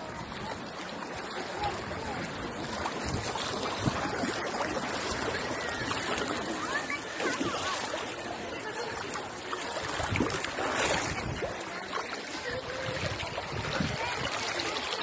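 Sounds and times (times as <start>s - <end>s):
faint distant voices: 0.0s - 15.0s.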